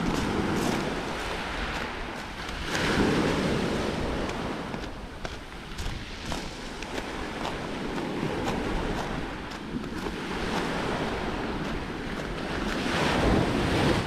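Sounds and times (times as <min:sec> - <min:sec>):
waves washing onto pebbles: 0:00.0 - 0:14.0
wind on microphone: 0:00.0 - 0:14.0.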